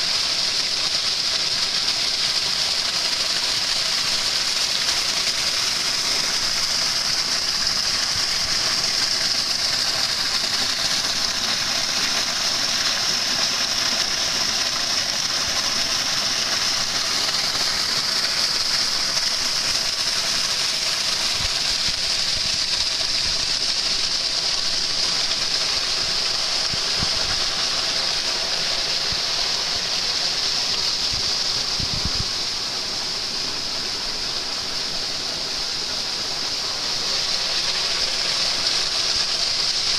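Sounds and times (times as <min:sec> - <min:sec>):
stream splashing over stones: 0:00.0 - 0:39.9.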